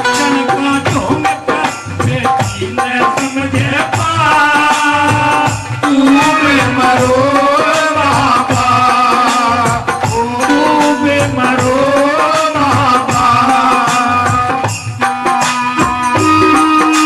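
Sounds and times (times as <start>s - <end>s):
hand drum percussion: 0.0s - 17.0s.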